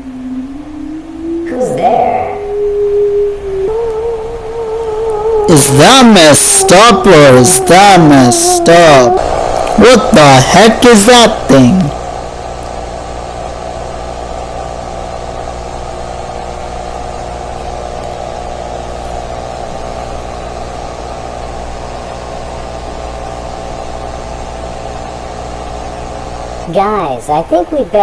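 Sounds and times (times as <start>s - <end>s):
ambient droning hum with hiss: 0.0s - 28.0s.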